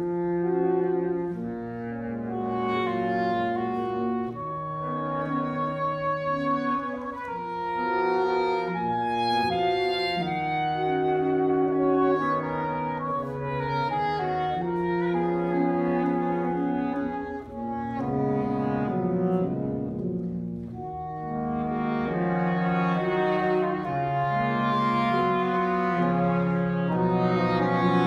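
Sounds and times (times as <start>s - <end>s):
saxophone quartet playing chords: 0.0s - 28.0s.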